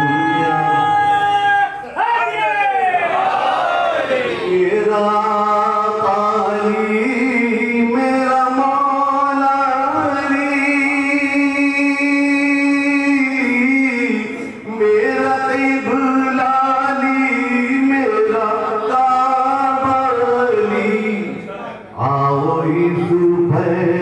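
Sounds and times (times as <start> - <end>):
man chanting into a microphone: 0.0 - 2.4, 4.4 - 24.0.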